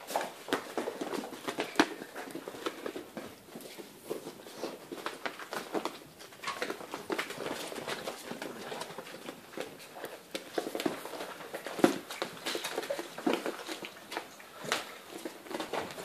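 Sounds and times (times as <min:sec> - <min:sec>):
puppy claws pattering on hard floor: 0:00.0 - 0:16.0.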